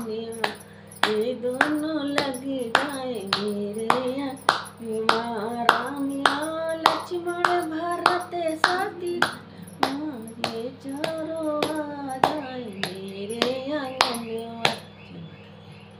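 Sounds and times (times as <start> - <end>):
hands clapping: 0.0 - 14.8
woman singing a folk song: 0.0 - 14.9.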